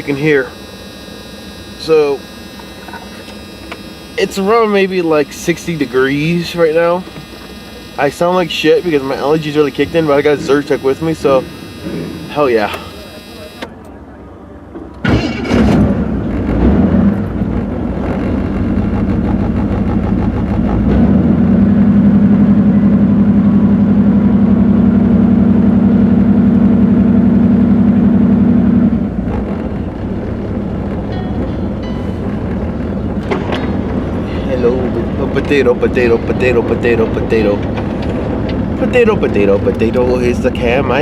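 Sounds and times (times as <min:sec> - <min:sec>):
car engine idling and revving: 0:00.0 - 0:14.0, 0:14.8 - 0:41.0.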